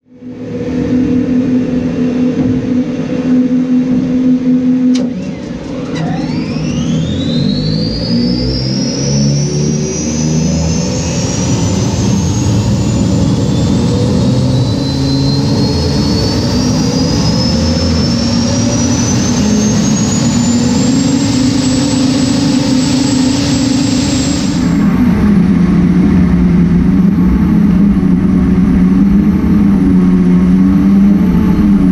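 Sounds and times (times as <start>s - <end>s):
high engine whine: 0.0s - 31.9s
jet boat engine drone: 0.0s - 31.9s.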